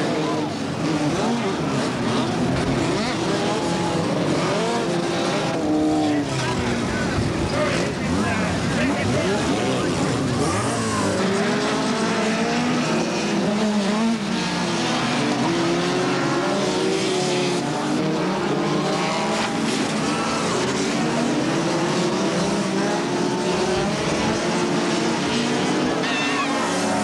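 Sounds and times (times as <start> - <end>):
stock car engines racing past: 0.0 - 27.0.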